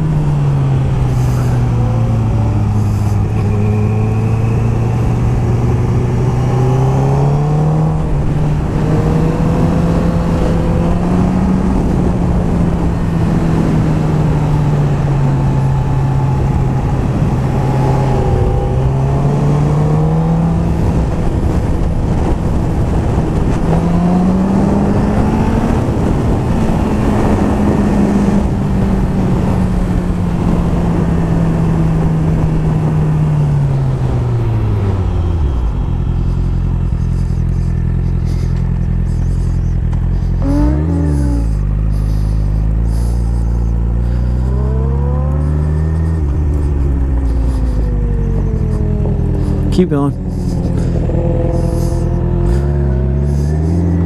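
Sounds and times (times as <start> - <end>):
sportbike engine revving: 0.0 - 54.0
wind rush on microphone: 0.0 - 54.0.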